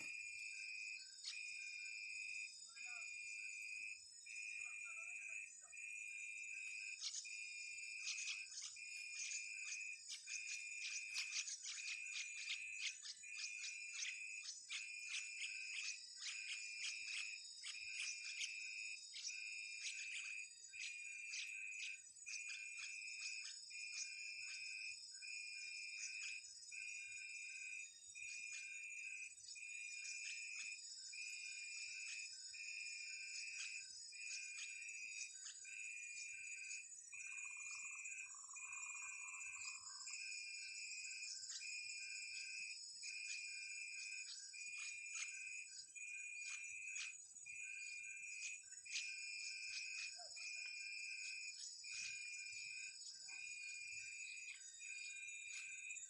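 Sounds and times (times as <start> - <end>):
high-pitched insect chorus: 0.0 - 56.0
pulsed insect call: 0.0 - 56.0.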